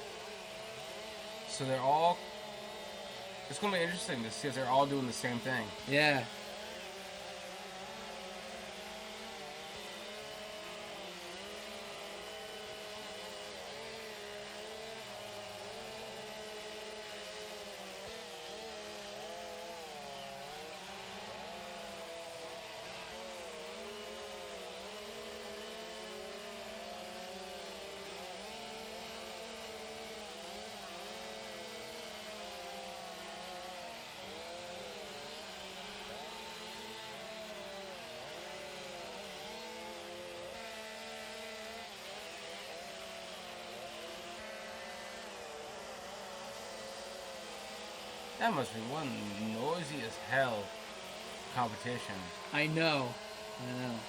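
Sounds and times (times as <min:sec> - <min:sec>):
chainsaws cutting logs: 0:00.0 - 0:54.0.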